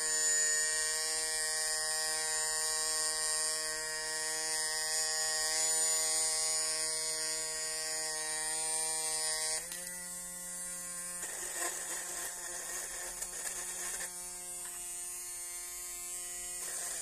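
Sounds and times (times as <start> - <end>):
small drill motor whining: 0.0 - 17.0.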